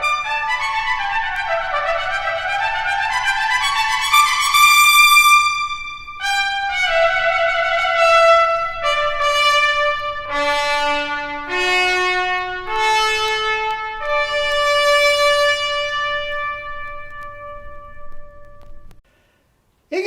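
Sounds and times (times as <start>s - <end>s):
trumpet playing held notes: 0.0s - 19.0s.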